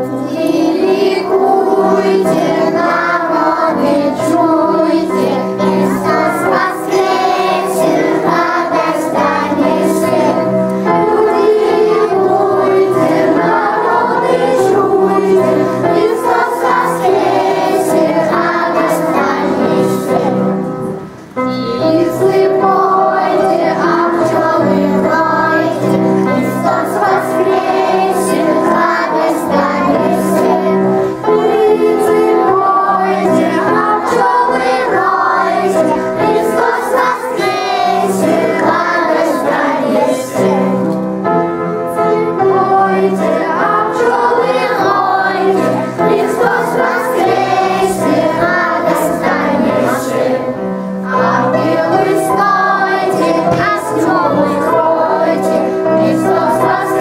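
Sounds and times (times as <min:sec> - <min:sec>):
choir of children and adults singing: 0:00.0 - 0:57.0
instrumental accompaniment: 0:00.0 - 0:57.0.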